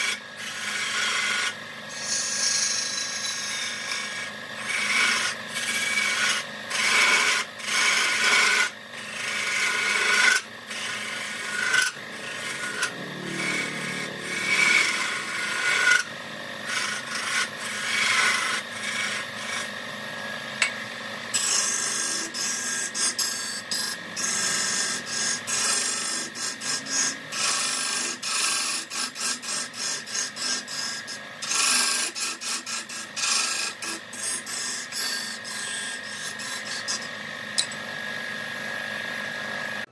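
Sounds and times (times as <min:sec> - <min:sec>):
tool rasping against wood: 0:00.0 - 0:19.8, 0:21.3 - 0:37.8.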